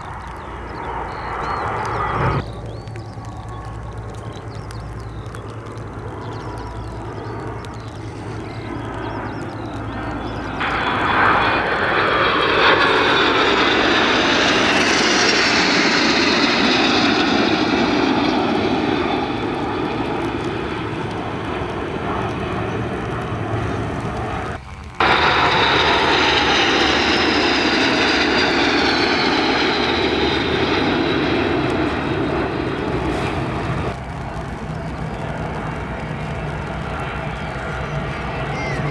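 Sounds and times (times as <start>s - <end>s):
airplane engine passing: 0.0s - 38.9s.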